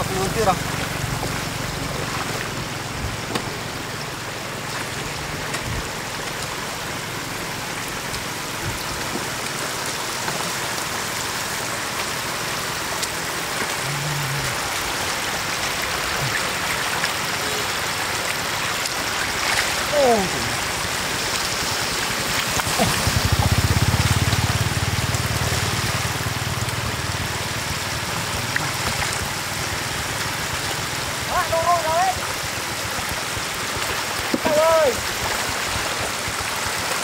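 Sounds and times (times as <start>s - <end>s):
floodwater rushing over mud: 0.0s - 37.0s.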